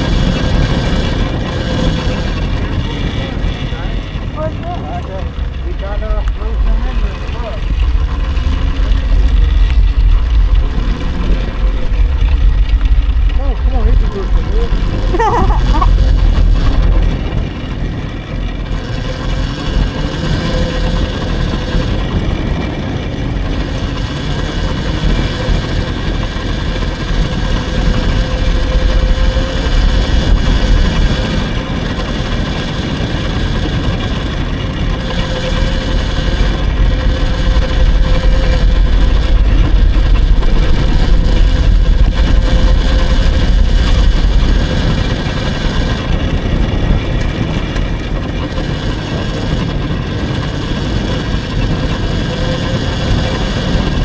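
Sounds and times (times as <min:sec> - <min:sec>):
electric motor whine: 0:00.0 - 0:54.0
wind rumble on microphone: 0:00.0 - 0:54.0.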